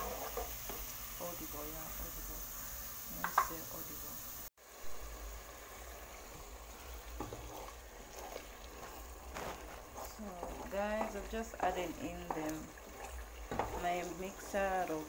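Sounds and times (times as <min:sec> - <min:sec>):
onions sizzling in oil: 0:00.0 - 0:15.0
sauce sizzling and bubbling: 0:00.0 - 0:15.0.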